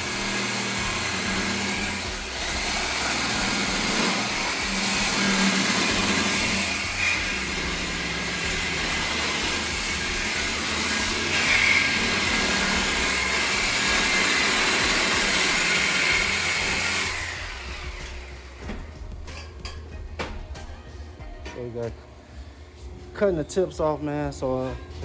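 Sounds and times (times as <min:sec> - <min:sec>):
power tool cutting exhaust pipe: 0:00.0 - 0:20.7.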